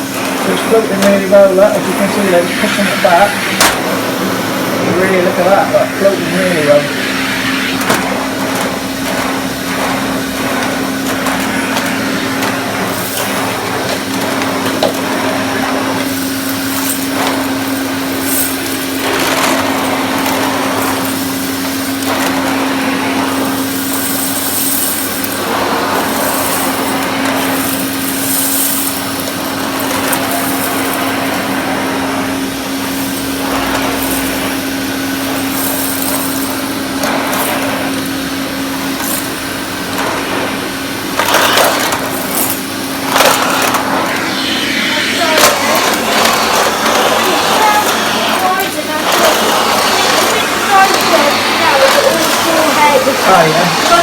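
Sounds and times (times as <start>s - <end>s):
air rushing through vacuum nozzle: 0.0s - 54.0s
vacuum cleaner motor hum: 0.0s - 54.0s.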